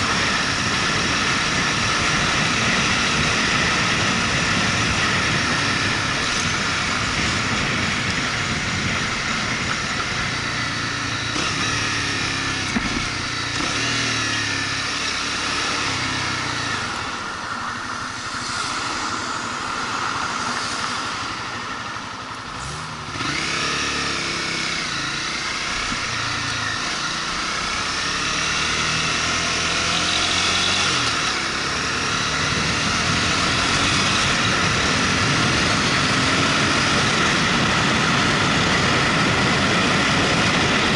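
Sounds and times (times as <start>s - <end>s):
motorcycle engine revving: 0.0s - 40.9s
rushing wind: 0.0s - 40.9s.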